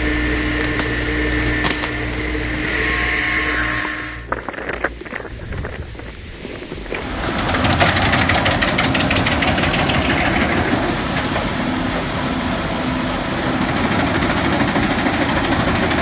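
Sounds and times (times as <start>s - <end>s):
heavy machine engine pulsing: 0.0s - 16.0s.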